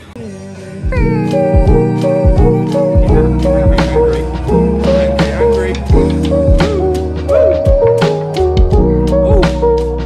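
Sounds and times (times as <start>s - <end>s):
background music with steady beat: 0.7s - 10.0s.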